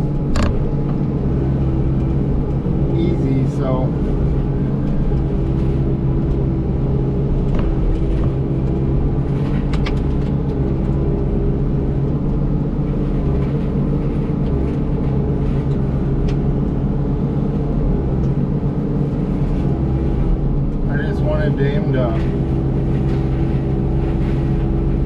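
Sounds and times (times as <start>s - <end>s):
excavator engine drone: 0.0s - 25.0s.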